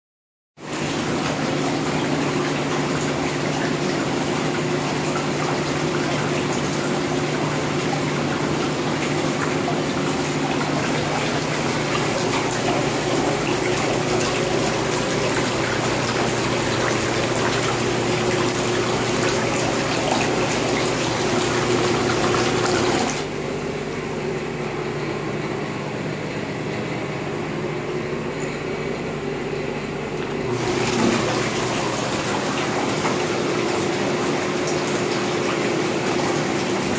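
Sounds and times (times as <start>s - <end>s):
whirlpool jets churning water: 0.6s - 27.4s, 30.4s - 36.9s
pump motor hum: 0.6s - 36.9s.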